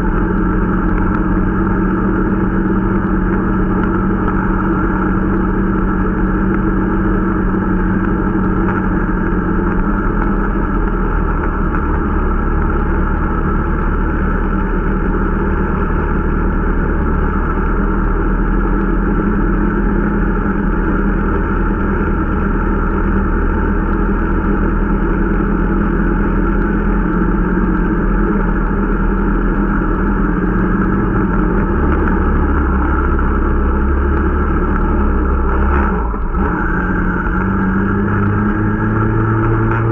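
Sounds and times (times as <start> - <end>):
snowmobile engine running: 0.0 - 39.9
snowmobile track noise: 0.0 - 39.9.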